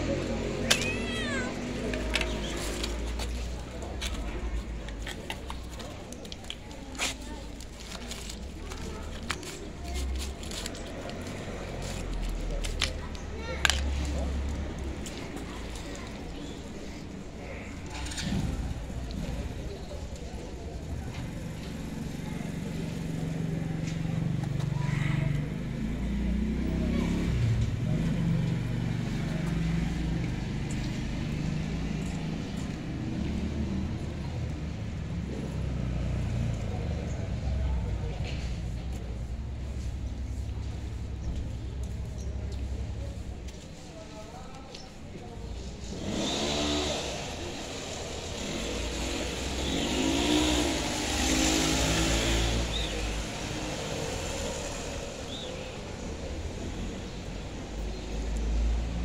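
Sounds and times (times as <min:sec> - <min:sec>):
street background noise: 0:00.0 - 0:59.0
vehicle engine rumbling: 0:00.0 - 0:59.0.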